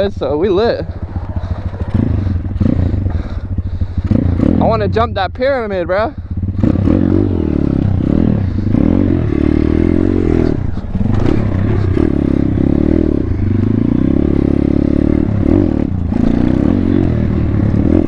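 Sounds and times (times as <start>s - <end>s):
pit bike engine revving: 0.0s - 18.0s.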